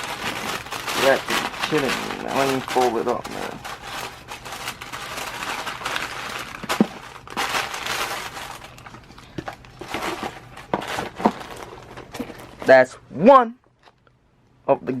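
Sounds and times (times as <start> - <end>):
packaging crinkling and rustling: 0.0 - 12.8.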